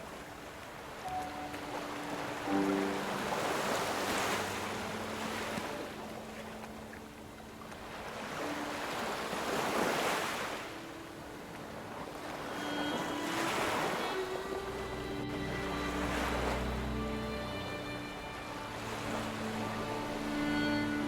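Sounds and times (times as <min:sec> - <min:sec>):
ocean waves in surf: 0:00.0 - 0:21.0.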